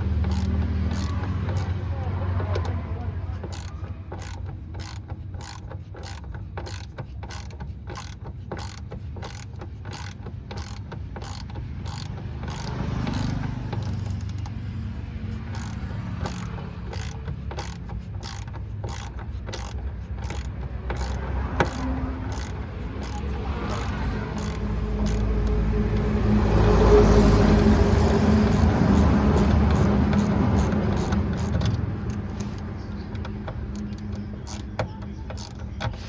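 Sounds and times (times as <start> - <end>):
ratchet wrench clicking: 0.0 - 36.0.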